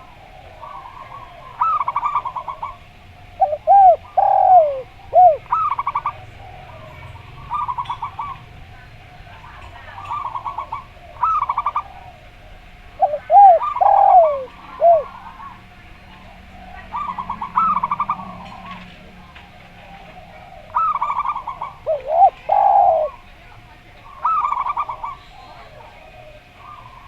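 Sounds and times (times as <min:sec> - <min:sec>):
dove arching coo phrases: 0:00.0 - 0:27.0
dove cooing in staccato trills: 0:00.0 - 0:27.0.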